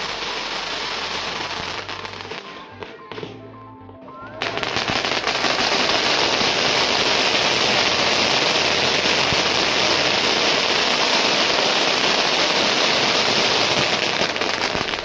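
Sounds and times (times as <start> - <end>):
firework fountain hissing and crackling: 0.0 - 2.9, 4.4 - 15.0.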